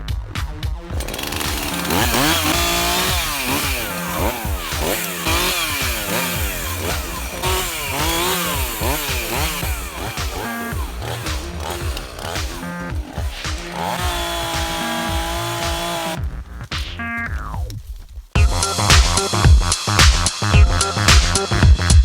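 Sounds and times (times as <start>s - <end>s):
chainsaw revving: 0.0s - 16.6s, 18.4s - 22.0s
background music: 0.0s - 17.8s, 18.4s - 22.0s.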